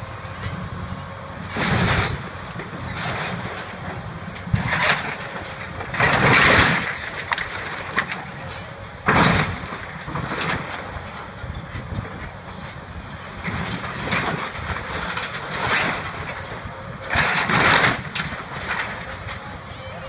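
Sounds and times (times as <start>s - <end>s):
excavator engine running: 0.0s - 20.0s
debris crashing and scraping: 1.4s - 11.3s, 13.2s - 19.5s.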